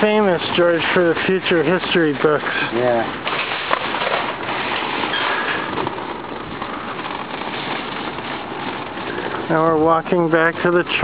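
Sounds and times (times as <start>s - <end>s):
shopping cart rattling on asphalt: 0.0s - 11.0s.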